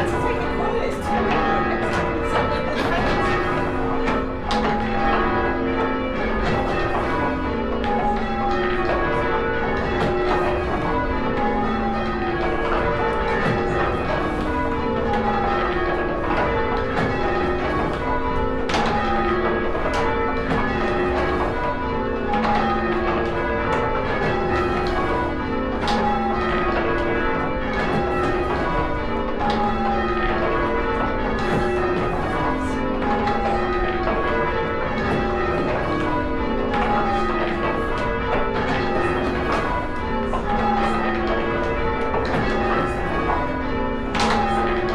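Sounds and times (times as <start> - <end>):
church bells change ringing: 0.0 - 44.9.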